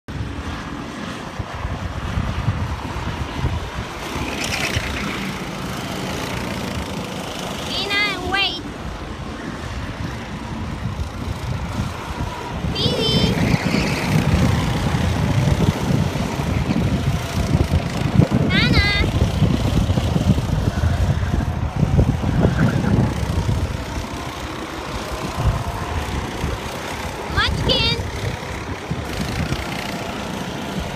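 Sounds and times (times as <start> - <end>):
go-kart engines running: 0.1 - 30.9
wind rumbling on microphone: 0.1 - 30.9
kart passing close by: 2.7 - 9.1, 9.8 - 30.9.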